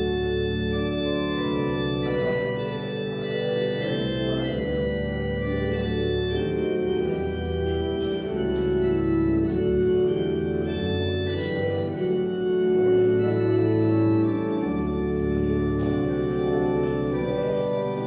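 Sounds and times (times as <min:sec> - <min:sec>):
deep organ pedal bass: 0:00.0 - 0:18.0
pipe organ chords: 0:00.0 - 0:18.0.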